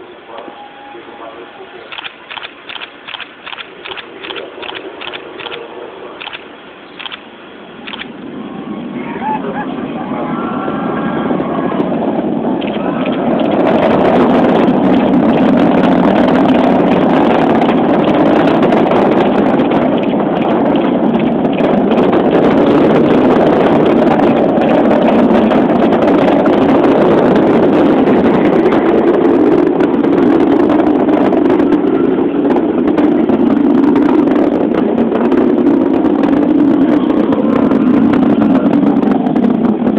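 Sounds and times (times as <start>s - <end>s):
distant rocket roar with crackling: 0.0s - 39.9s.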